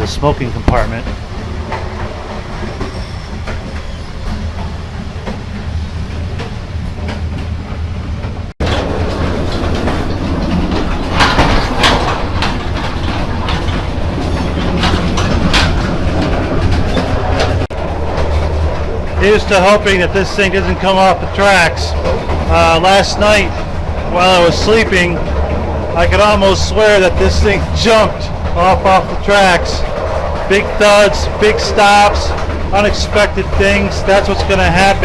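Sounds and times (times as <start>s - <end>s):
train clacking and rattling: 0.0s - 35.0s
train wheels rumbling on rails: 0.0s - 35.0s.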